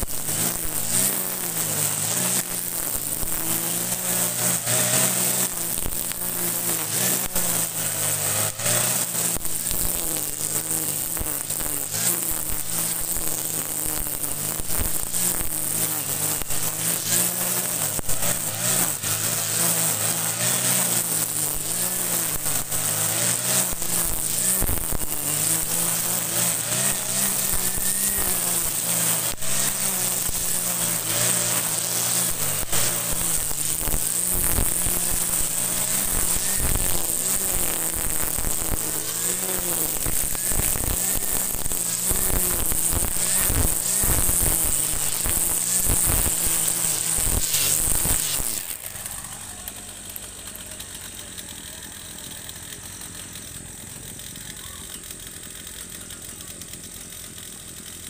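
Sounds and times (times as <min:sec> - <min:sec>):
brush cutter cutting grass: 0:00.0 - 0:58.0.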